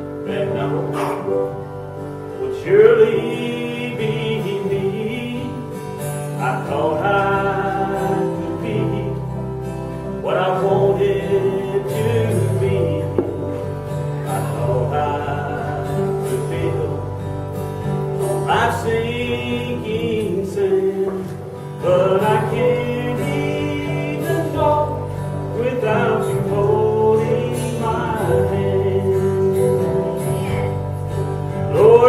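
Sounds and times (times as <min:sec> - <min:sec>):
gospel singing: 0:00.0 - 0:32.0
instrumental accompaniment: 0:00.0 - 0:32.0.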